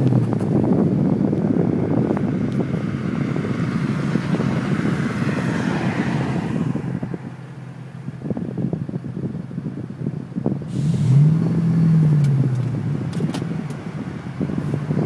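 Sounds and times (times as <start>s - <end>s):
car exhaust rumbling: 0.0s - 15.0s.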